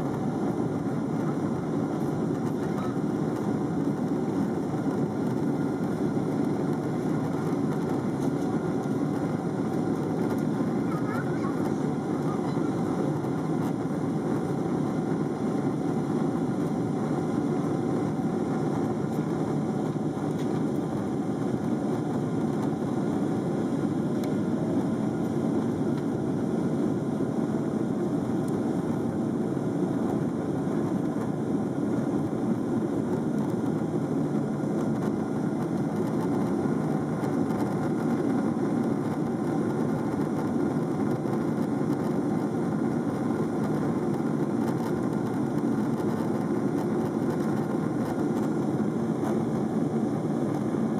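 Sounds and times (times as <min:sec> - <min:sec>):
jet engines and airflow rumble: 0:00.0 - 0:50.9.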